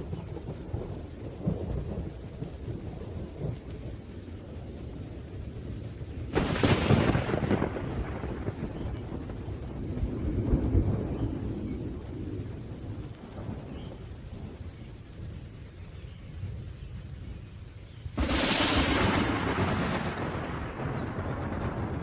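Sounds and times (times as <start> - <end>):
rain falling: 0.0 - 22.0
thunder rumbling: 0.0 - 22.0.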